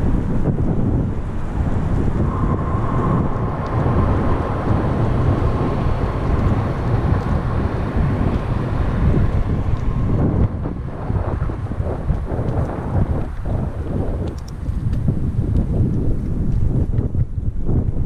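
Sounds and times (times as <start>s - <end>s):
faint thin whine: 0.0s - 14.5s
bicycle tyres rolling on pavement: 0.0s - 18.0s
wind buffeting microphone: 0.0s - 18.0s.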